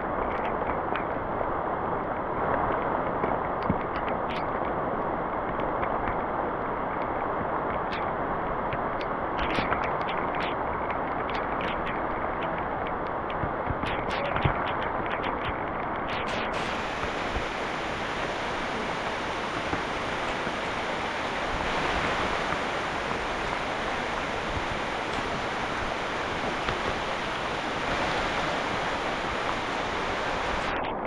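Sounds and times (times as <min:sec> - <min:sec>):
heavy rain on foliage: 0:00.0 - 0:31.0.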